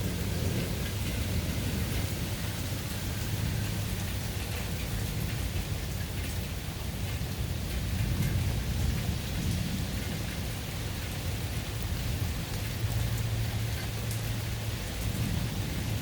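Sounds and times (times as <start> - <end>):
thunder rumbling: 0.0 - 6.4, 7.4 - 16.0
rain falling: 0.0 - 16.0.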